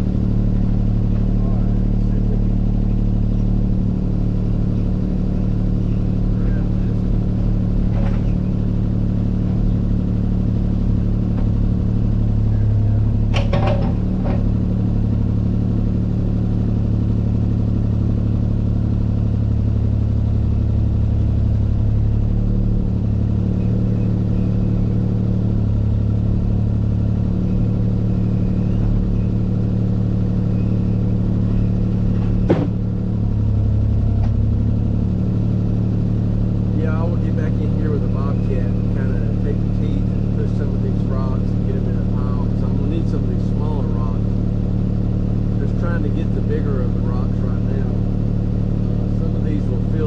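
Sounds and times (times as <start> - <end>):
diesel engine running: 0.0 - 50.0.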